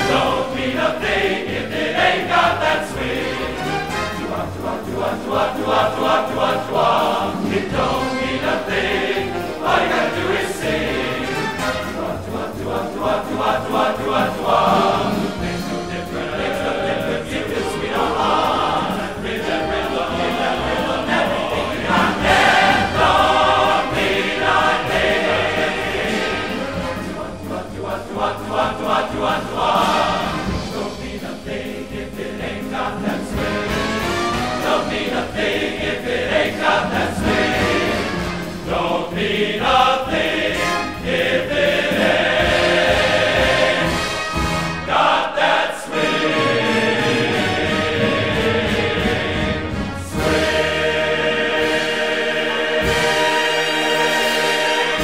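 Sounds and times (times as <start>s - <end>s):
choir singing held notes: 0.0s - 55.0s.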